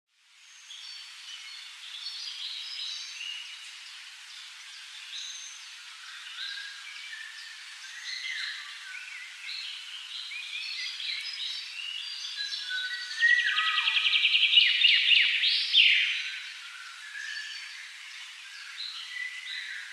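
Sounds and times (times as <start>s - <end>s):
birds singing and calling: 0.5s - 19.9s.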